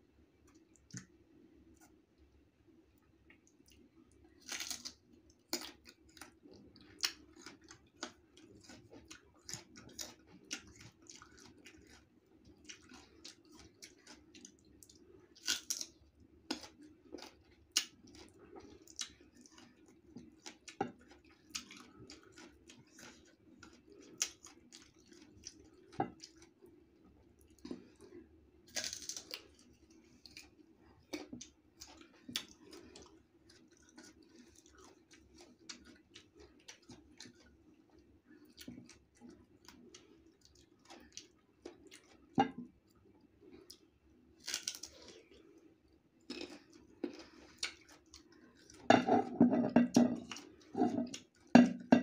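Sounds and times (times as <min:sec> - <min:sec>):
chewing crisp raw mango: 0:03.0 - 0:49.3, 0:49.9 - 0:51.8.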